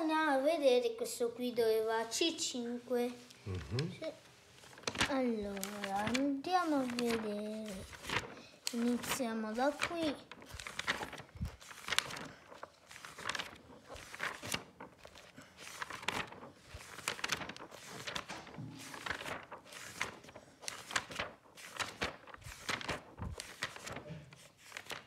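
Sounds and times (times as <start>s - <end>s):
pages rustling and flapping: 4.5s - 25.0s.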